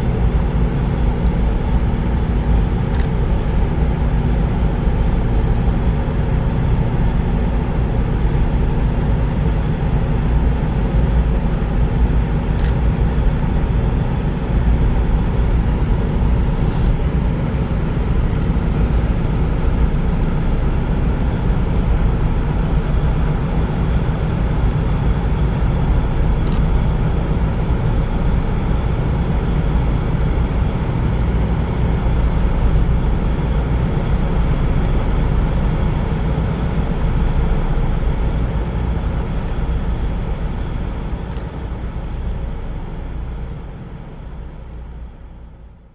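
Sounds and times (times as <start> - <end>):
faint droning hum: 0.0 - 45.9.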